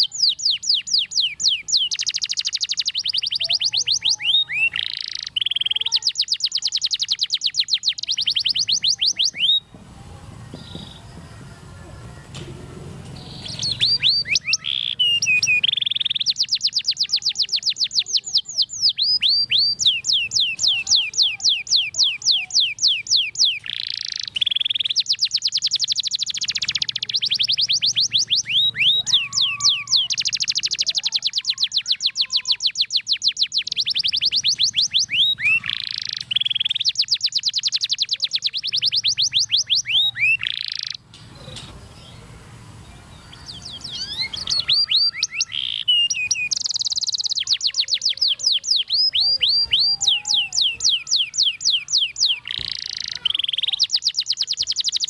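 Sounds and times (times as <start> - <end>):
canary singing rattling trills: 0.0 - 55.0.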